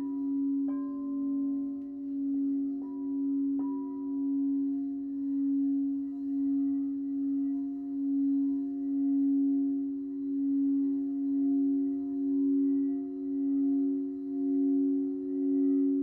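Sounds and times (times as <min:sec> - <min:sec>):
singing bowl ringing tone: 0:00.0 - 0:16.0.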